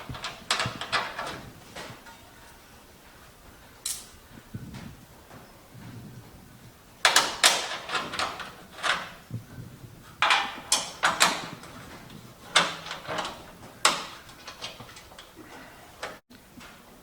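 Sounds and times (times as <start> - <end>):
knocking and scraping of parts: 0.0 - 16.9.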